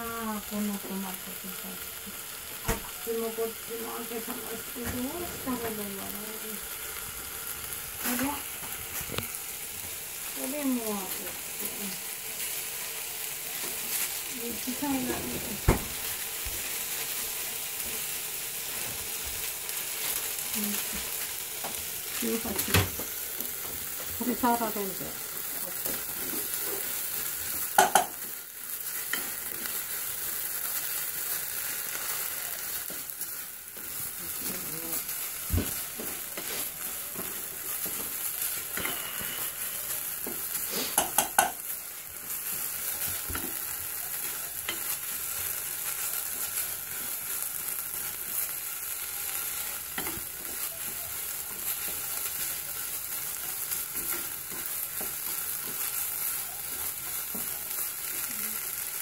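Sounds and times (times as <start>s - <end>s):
onions sizzling in a pan: 0.0s - 59.0s.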